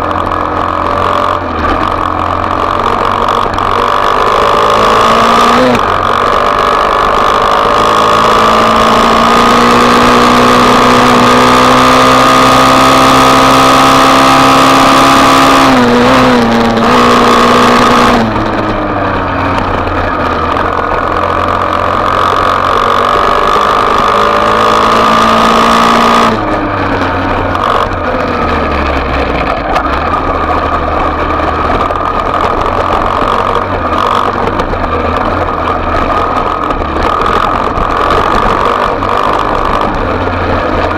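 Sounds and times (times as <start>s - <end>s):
motorbike engine running: 0.0s - 40.9s.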